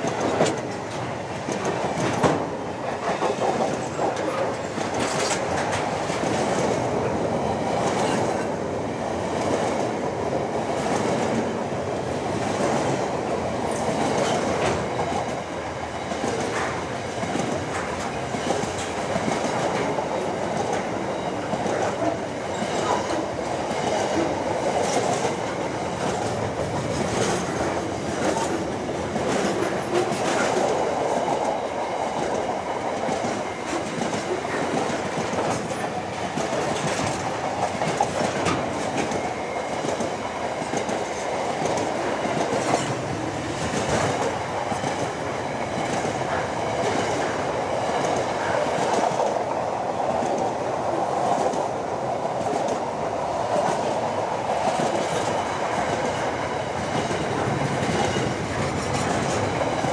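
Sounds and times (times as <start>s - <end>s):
freight train wheels rumbling and clicking: 0.0s - 59.9s.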